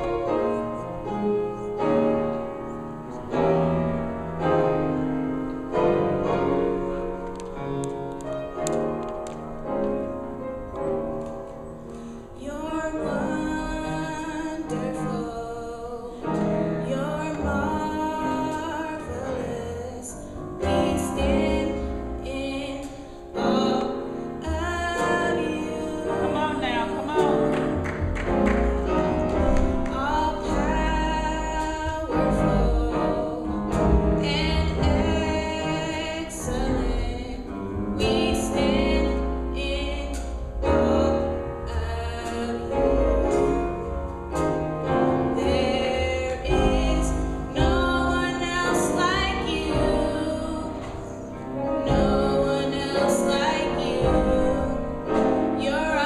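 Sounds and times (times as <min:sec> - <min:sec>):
piano accompaniment: 0:00.0 - 0:56.0.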